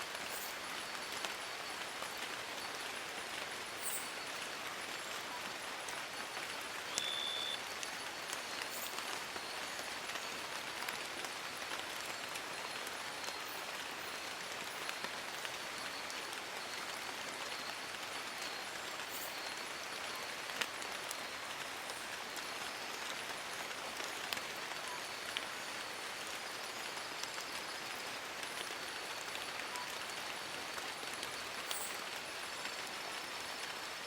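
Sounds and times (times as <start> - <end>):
rain on leaves: 0.0 - 34.0.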